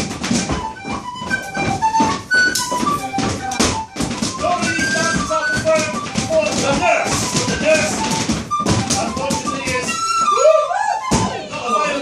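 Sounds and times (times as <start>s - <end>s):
dancers' stepping knocks: 0.0s - 10.4s, 11.1s - 11.5s
tin whistle dance tune: 0.0s - 12.0s.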